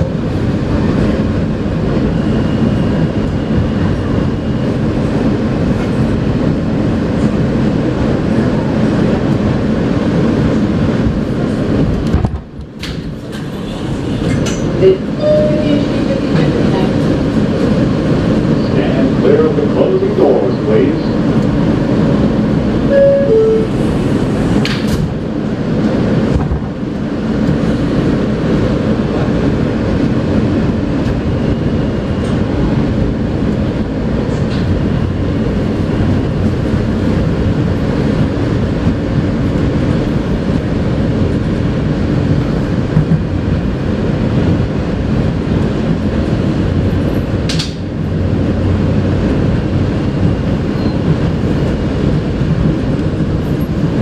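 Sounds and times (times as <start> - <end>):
subway train rumbling on track: 0.0 - 54.0.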